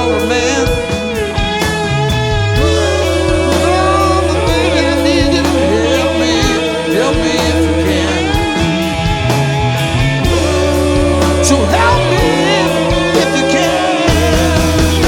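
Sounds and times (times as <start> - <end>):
rock band playing live: 0.0 - 15.0
person singing: 2.6 - 15.0.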